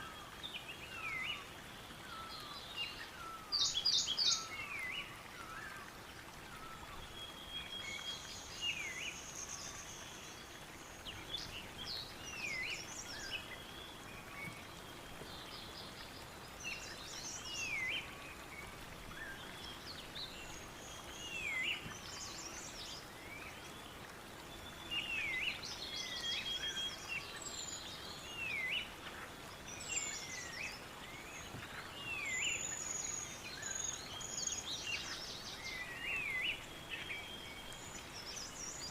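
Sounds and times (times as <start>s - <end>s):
soft outdoor hiss: 0.0s - 38.9s.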